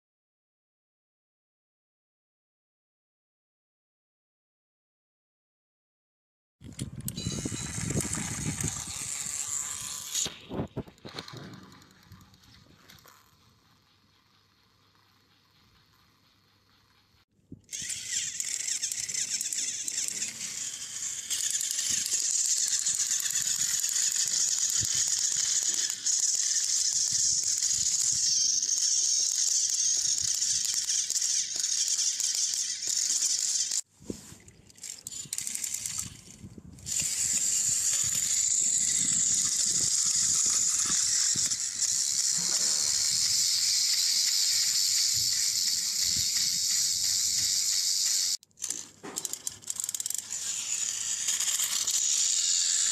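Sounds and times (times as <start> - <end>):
toy train motors whirring: 6.6 - 52.9.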